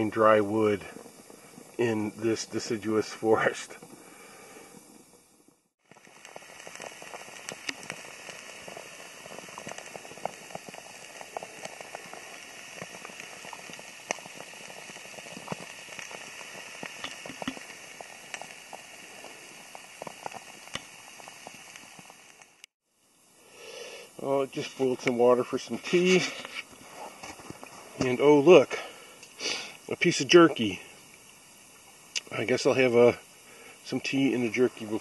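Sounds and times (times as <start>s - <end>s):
water boiling hard in a pot: 0.0s - 35.0s.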